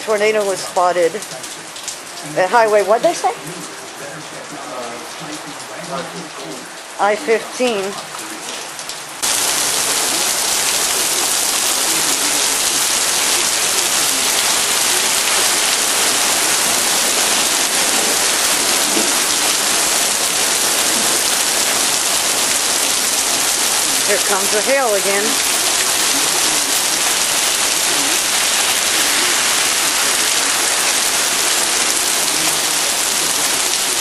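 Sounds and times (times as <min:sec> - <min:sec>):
heavy rain on pavement: 0:00.0 - 0:34.0.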